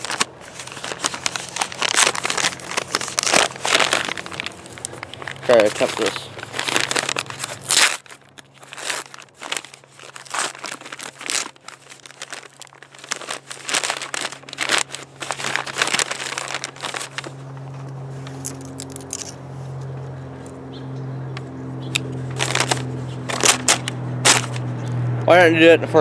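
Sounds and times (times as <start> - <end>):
envelope crinkling and ripping: 0.0 - 19.3, 22.0 - 24.7
steady low hum: 0.0 - 26.0.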